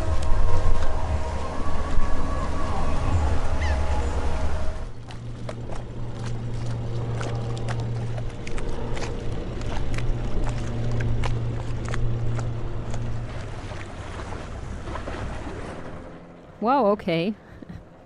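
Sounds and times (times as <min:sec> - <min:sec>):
propeller plane drone: 0:00.0 - 0:18.0.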